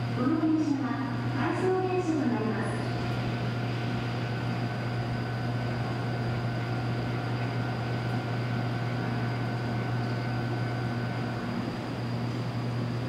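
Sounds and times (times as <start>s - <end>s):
constant low hum: 0.0s - 13.0s
faint steady whines: 0.0s - 13.0s.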